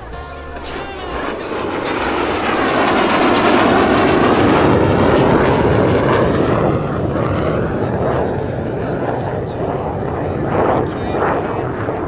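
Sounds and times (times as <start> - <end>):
jet flying past with loud roar: 0.0 - 12.0.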